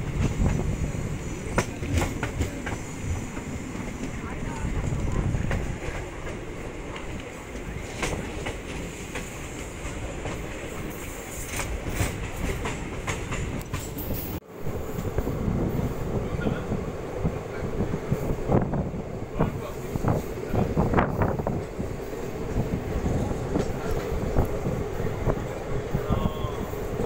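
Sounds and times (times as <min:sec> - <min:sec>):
train rumbling inside coach: 0:00.0 - 0:27.0.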